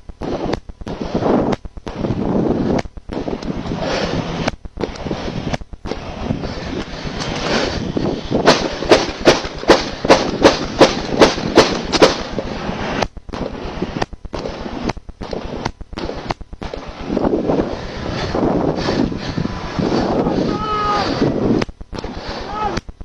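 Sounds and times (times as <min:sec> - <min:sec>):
noisy background: 0:00.0 - 0:23.0
rapid gunshots: 0:00.2 - 0:22.9.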